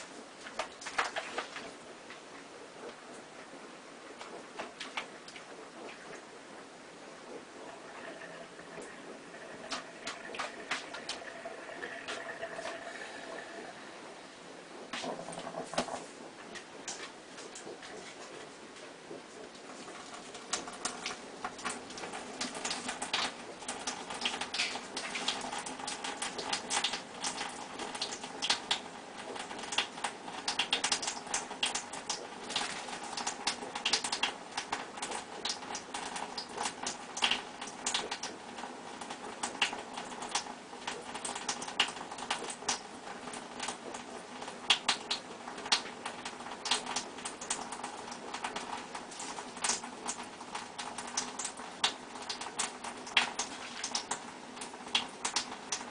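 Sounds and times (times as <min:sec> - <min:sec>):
faint background hum: 0:00.0 - 0:55.9.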